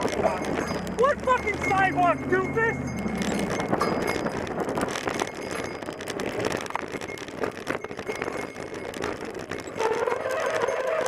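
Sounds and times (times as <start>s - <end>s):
small clicks and rattles: 0.0s - 11.0s
traffic: 0.0s - 11.0s
wind noise on microphone: 0.0s - 11.0s.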